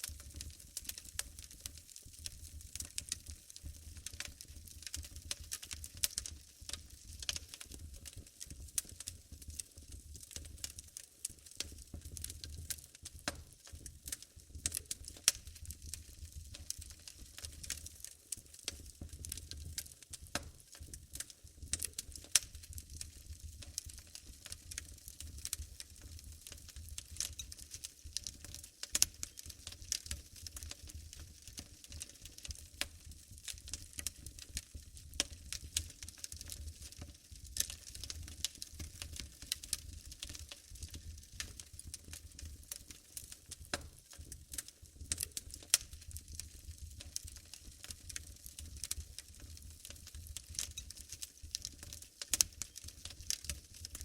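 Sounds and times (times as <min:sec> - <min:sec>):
fire pops and snaps: 0:00.0 - 0:54.0
wood fire crackling: 0:00.0 - 0:54.0.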